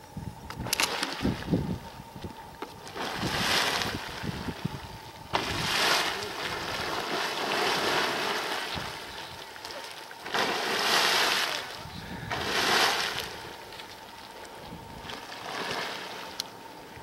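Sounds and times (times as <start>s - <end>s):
hot spring pool surging and splashing: 2.8s - 17.0s.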